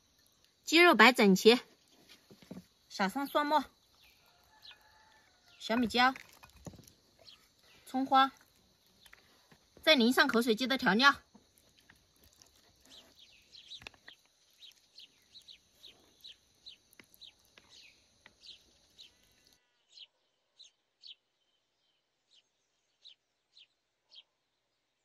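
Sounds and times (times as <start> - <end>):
faint bird chirps: 2.9 - 6.1, 6.7 - 9.6, 10.6 - 25.0.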